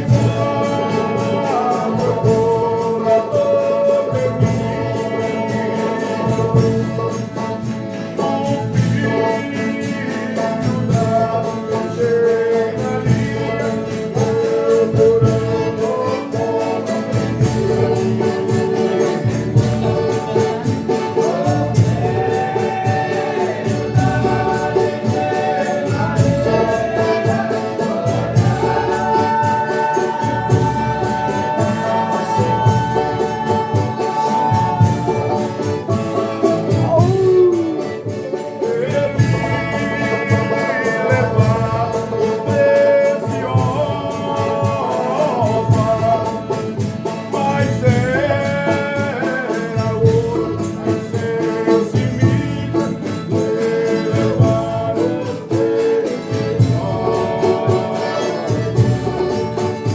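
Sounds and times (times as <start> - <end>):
group of voices singing: 0.0 - 59.9
instruments keeping a beat: 0.0 - 59.9
tambourine: 0.0 - 59.9.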